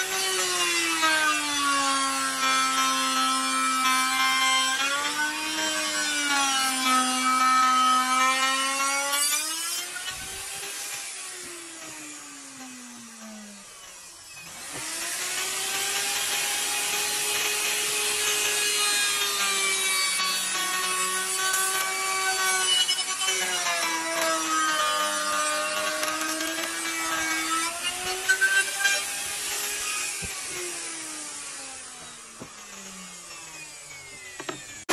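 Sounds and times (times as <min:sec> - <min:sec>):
router whining: 0:00.0 - 0:34.9.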